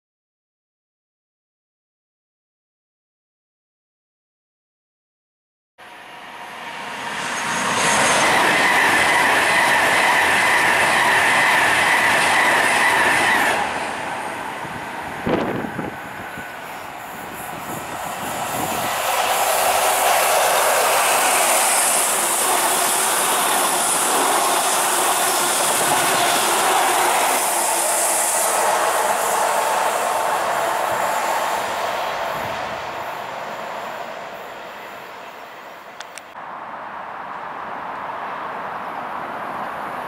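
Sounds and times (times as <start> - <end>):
diesel train passing at speed: 5.8 - 40.0.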